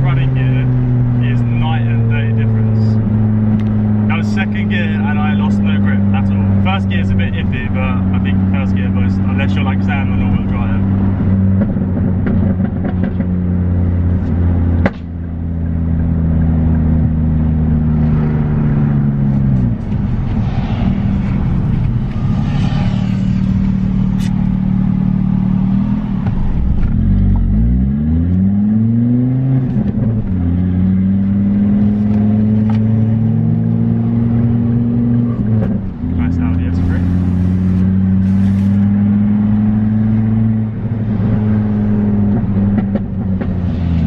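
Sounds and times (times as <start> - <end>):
car engine from inside cabin: 0.0 - 44.0.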